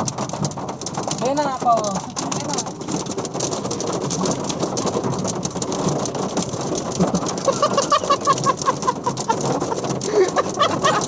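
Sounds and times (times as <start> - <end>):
hail pelting a car: 0.0 - 11.0.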